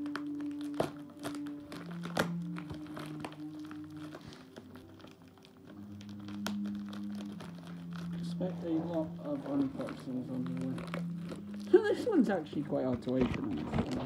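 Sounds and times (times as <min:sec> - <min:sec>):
music of slow held notes: 0:00.0 - 0:14.0
packaging crinkling: 0:00.0 - 0:14.0.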